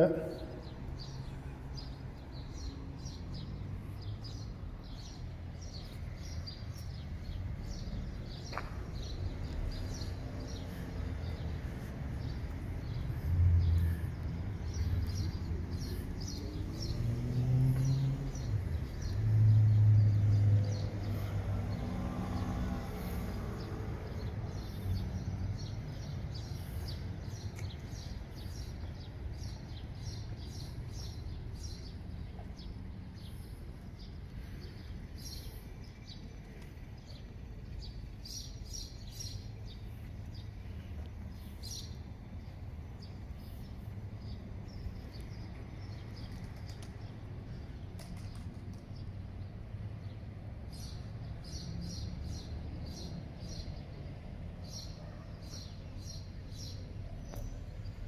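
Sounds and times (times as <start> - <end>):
passing vehicle rumble: 0.0 - 54.6
birds chirping: 0.0 - 58.0.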